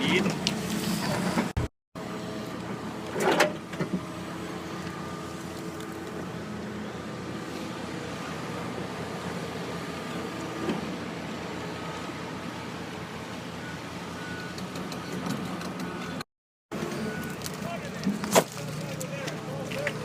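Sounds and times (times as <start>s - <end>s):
diesel machinery running: 0.0s - 20.0s.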